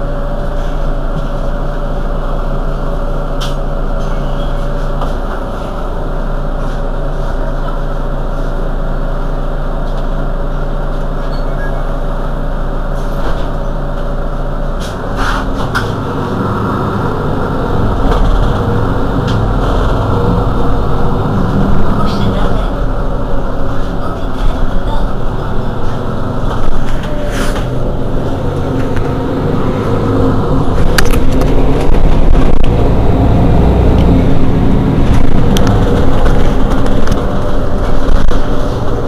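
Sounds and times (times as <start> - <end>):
bus engine running: 0.0 - 39.0.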